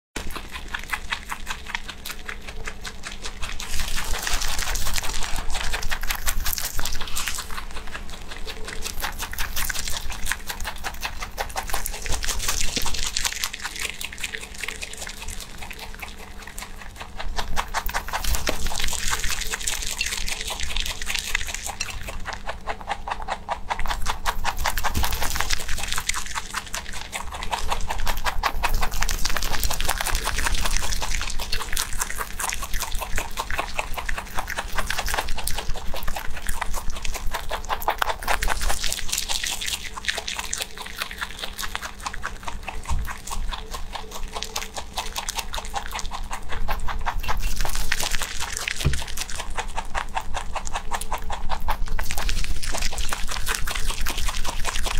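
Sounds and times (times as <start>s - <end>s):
rabbit chewing crunchy shoots: 0.2s - 54.9s.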